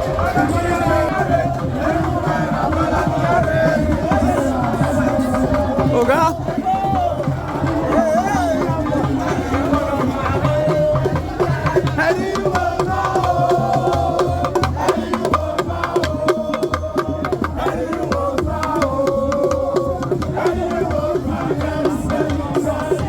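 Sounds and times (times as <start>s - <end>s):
steady drumbeat: 0.0s - 23.0s
voices singing: 0.0s - 23.0s.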